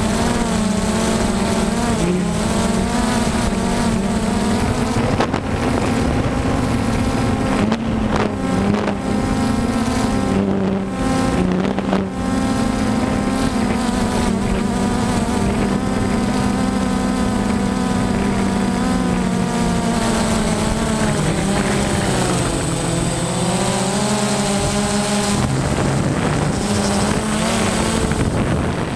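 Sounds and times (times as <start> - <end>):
drone propellers buzzing: 0.0 - 28.9
wind noise on microphone: 0.0 - 28.9.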